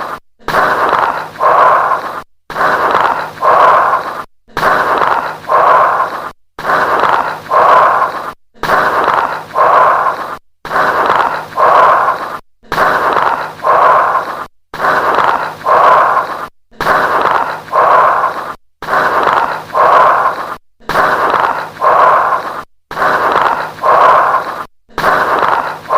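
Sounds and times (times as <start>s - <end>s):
breathing in and out: 0.0s - 25.9s
lung crackles: 0.0s - 25.9s.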